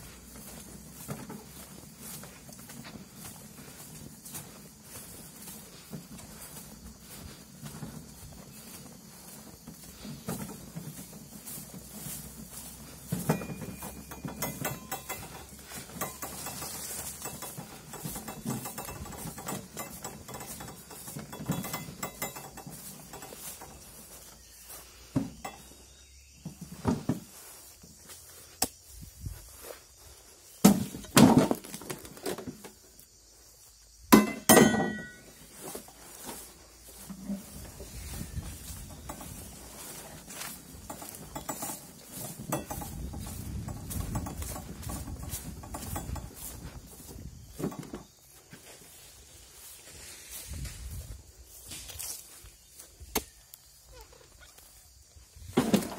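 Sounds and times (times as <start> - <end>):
wheelbarrow load rattling: 0.0 - 28.2, 30.4 - 32.9, 34.1 - 51.2, 55.3 - 55.9.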